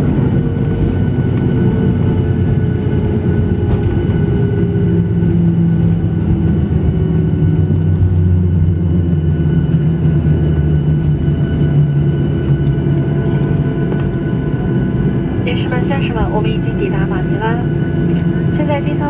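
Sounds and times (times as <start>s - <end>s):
rumble of engines and wheels: 0.0s - 19.0s
strong low hum: 0.0s - 19.0s.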